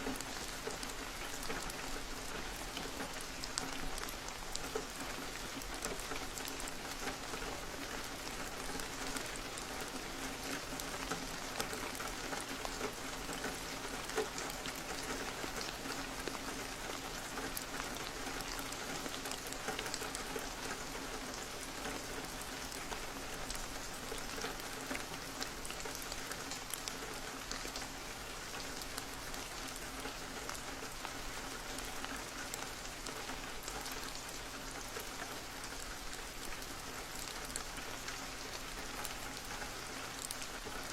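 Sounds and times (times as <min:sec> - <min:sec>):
rain hissing on window: 0:00.0 - 0:40.9.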